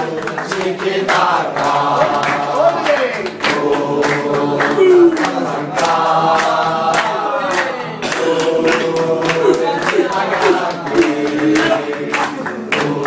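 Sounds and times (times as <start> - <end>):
crowd singing a chant: 0.0 - 13.0
regular beat: 0.6 - 13.0.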